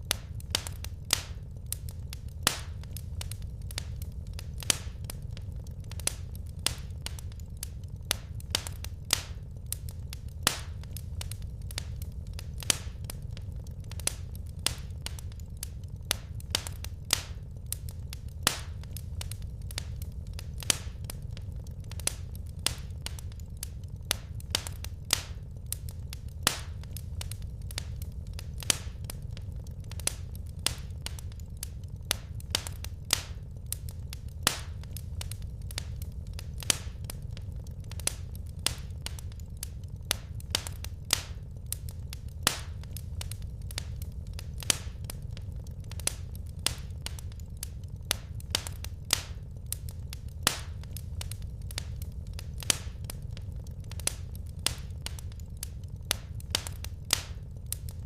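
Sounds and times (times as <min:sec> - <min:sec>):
low rumble: 0:00.0 - 0:58.0
wood fire crackling: 0:00.0 - 0:58.0.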